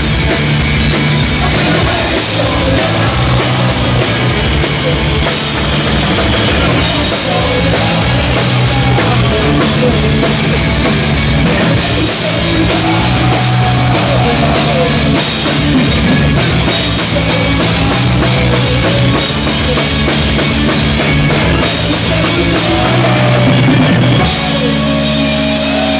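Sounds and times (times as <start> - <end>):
drum kit beating: 0.0 - 25.9
electric guitar and bass: 0.0 - 25.9
person singing: 1.4 - 5.8, 6.4 - 20.1, 21.2 - 25.9.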